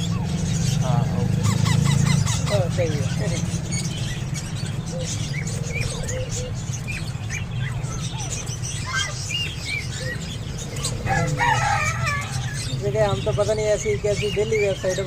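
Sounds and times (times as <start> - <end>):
parakeet chicks chirping: 0.0 - 15.0.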